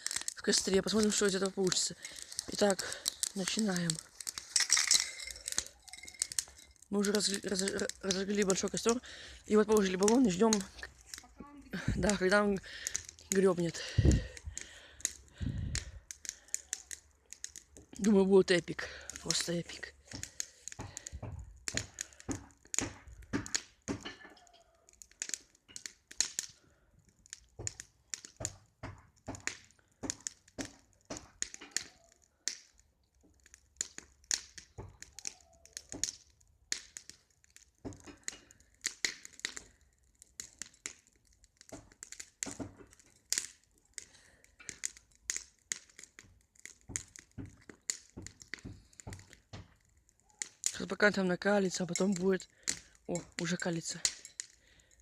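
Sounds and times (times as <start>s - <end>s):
bonfire crackling: 0.0s - 55.0s.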